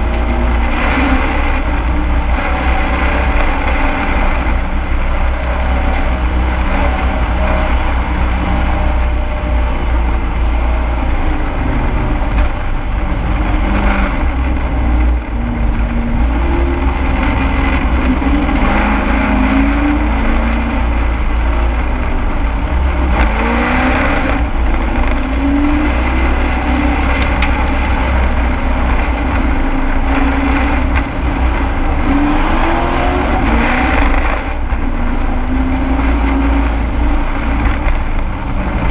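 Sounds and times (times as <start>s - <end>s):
heavy wind: 0.0s - 38.9s
road rumble: 0.0s - 38.9s
truck engine racing: 0.0s - 38.9s.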